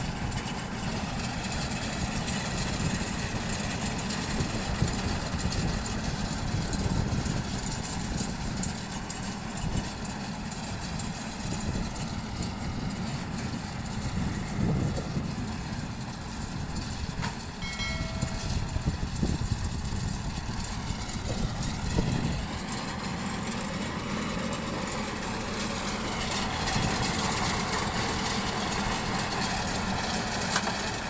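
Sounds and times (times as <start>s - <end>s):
low engine rumble: 0.0s - 31.0s
straw baler running: 0.0s - 31.0s.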